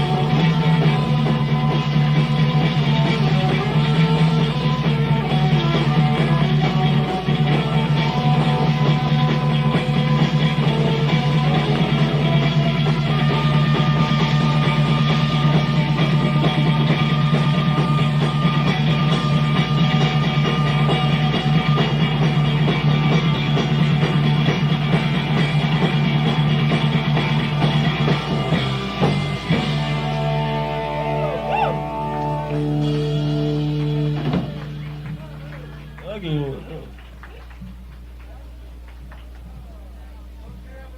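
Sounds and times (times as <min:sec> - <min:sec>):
distorted electric guitar: 0:00.0 - 0:36.9
bass: 0:00.0 - 0:40.9
drums: 0:00.0 - 0:40.9.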